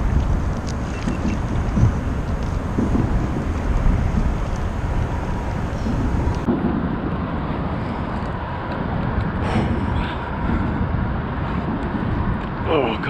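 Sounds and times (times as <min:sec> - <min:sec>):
traffic rumble on bridge: 0:00.0 - 0:13.0
wind on microphone: 0:00.0 - 0:13.0.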